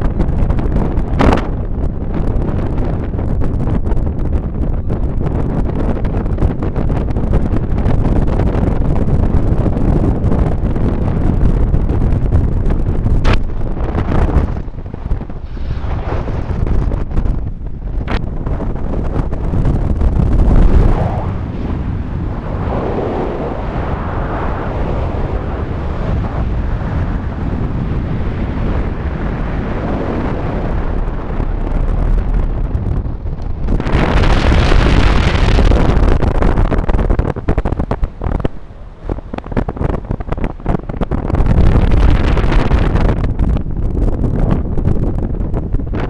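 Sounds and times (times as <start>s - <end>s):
strong wind buffeting microphone: 0.0s - 46.0s.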